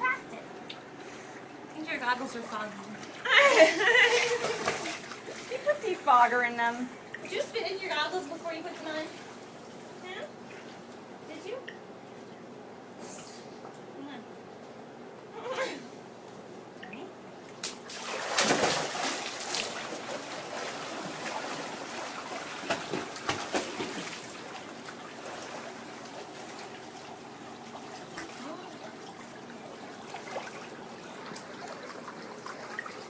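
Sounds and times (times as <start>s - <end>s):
water splashing and sloshing: 0.0s - 11.2s, 17.4s - 33.0s
water trickling and lapping: 0.5s - 12.7s, 17.4s - 33.0s.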